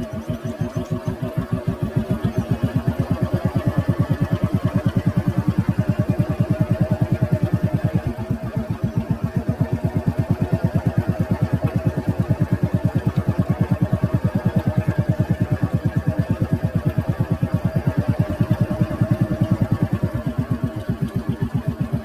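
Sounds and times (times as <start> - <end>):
vehicle engine thumping: 0.0 - 22.0.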